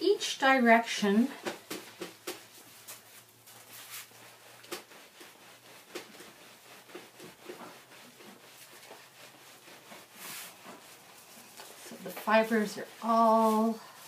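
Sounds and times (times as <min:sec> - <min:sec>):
hands scrubbing wet felt: 0:00.1 - 0:14.0.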